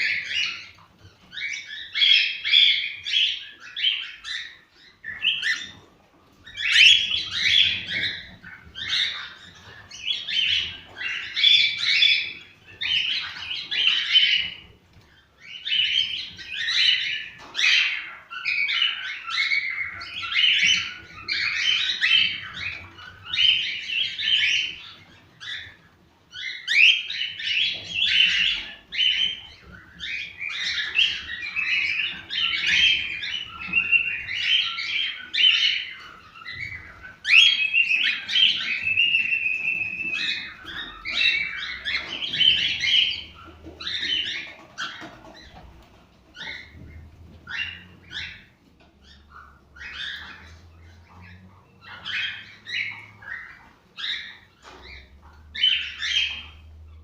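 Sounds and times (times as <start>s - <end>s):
cockatiels chirping and warbling: 0.0s - 57.0s.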